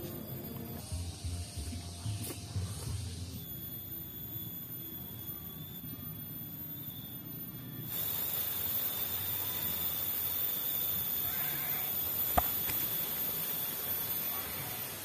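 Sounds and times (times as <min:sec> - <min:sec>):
faint steady high tones: 0:00.0 - 0:15.0
steady outdoor hiss: 0:00.0 - 0:15.0.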